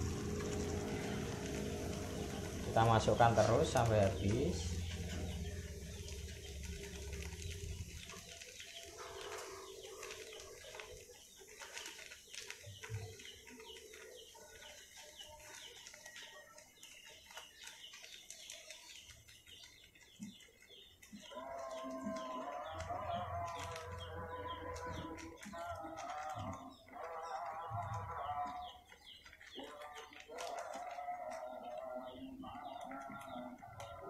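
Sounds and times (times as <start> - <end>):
chickens clucking: 0.0 - 34.0
small birds chirping rapidly: 0.0 - 34.0.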